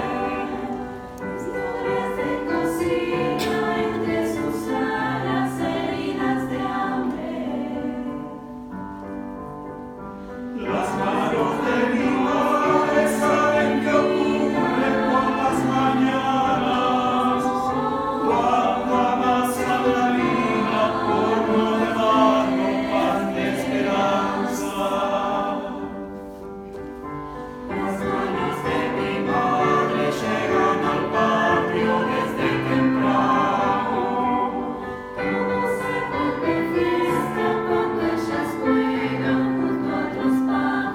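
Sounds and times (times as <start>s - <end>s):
youth choir singing: 0.0s - 8.8s, 10.5s - 26.5s, 27.4s - 40.9s.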